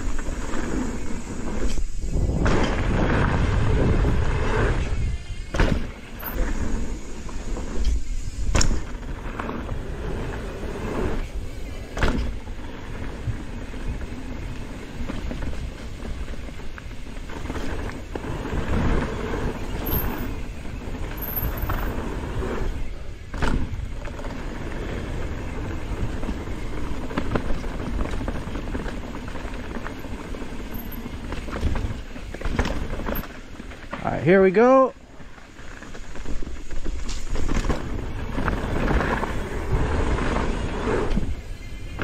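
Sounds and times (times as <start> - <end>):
wind buffeting microphone: 0.0 - 33.9
mountain bike rattling over dirt: 0.0 - 42.0.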